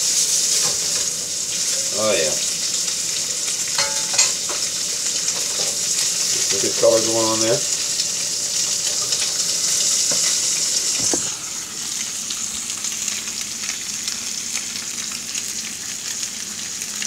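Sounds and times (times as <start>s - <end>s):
fish frying in butter: 0.0s - 17.0s.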